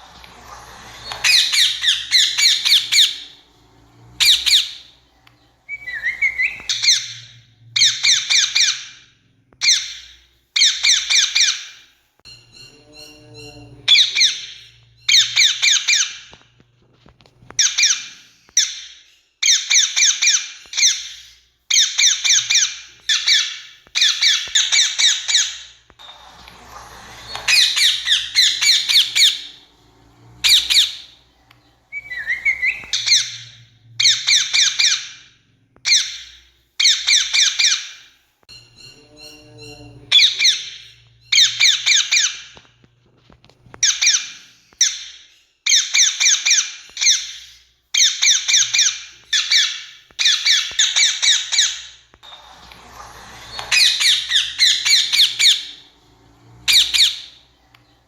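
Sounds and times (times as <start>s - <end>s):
parakeet screeching: 0.0s - 5.0s, 5.7s - 9.0s, 12.5s - 16.4s, 17.6s - 31.3s, 31.9s - 38.0s, 38.7s - 42.6s, 43.8s - 58.0s.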